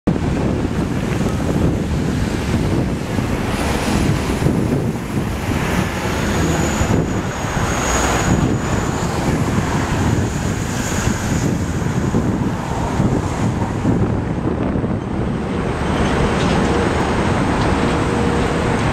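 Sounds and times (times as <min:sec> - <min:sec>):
bus passing: 0:00.1 - 0:18.9
city traffic passing: 0:00.1 - 0:18.9
wind buffeting microphone: 0:00.1 - 0:18.9.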